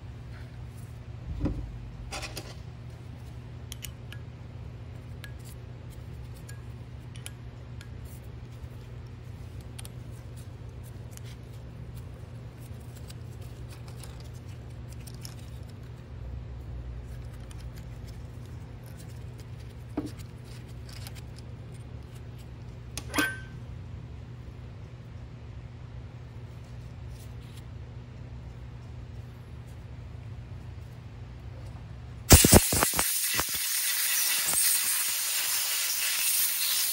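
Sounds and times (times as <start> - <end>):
steady low hum: 0.0 - 32.8.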